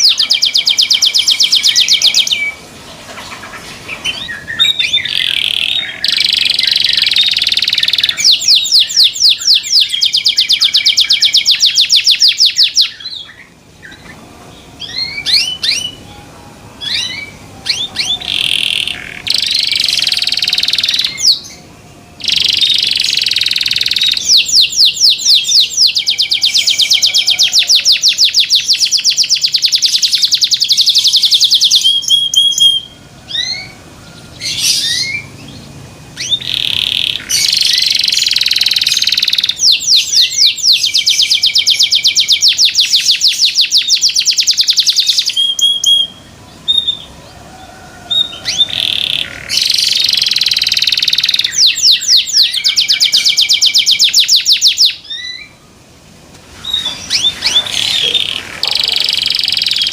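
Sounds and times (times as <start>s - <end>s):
canary singing trills: 0.0s - 55.8s, 56.5s - 59.9s.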